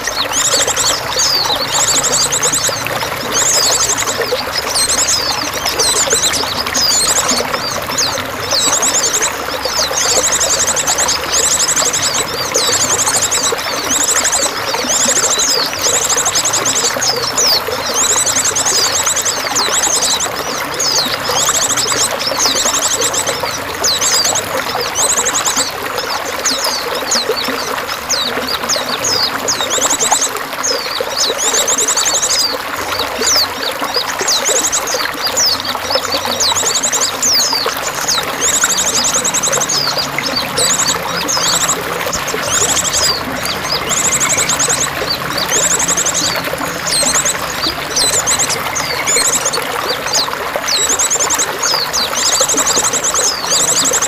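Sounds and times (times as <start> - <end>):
small birds chirping: 0.0 - 54.0
water trickling and splashing: 0.0 - 54.0.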